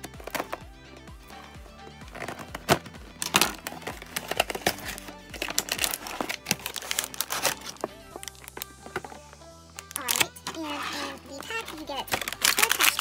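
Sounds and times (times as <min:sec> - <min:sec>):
plastic blister tray crinkling: 0:00.0 - 0:00.6, 0:01.3 - 0:13.0
background music: 0:00.0 - 0:13.0.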